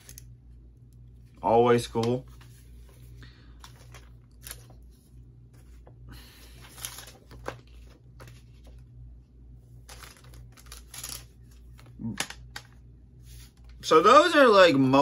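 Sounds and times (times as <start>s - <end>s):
paper rustling and crinkling: 0.0s - 0.3s, 1.3s - 8.9s, 9.7s - 13.8s.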